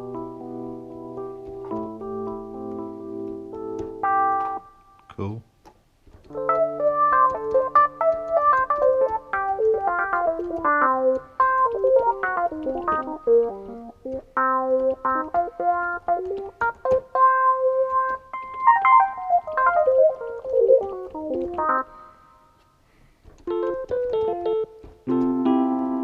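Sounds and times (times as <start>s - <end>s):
electric piano synthesizer: 0.0s - 5.1s, 6.1s - 26.0s.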